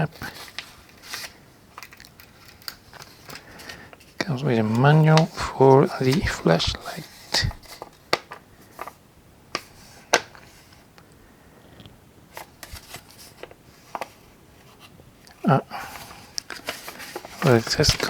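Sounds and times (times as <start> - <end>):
paper leaflet rustling: 0.0 - 10.9, 12.3 - 18.0.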